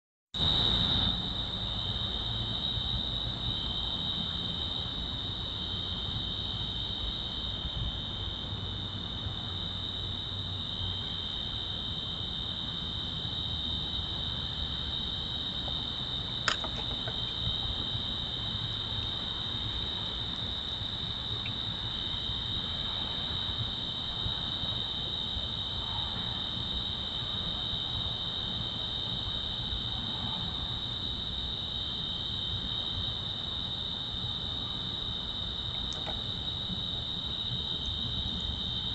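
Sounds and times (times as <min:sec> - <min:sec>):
crickets trilling: 0:00.4 - 0:38.9.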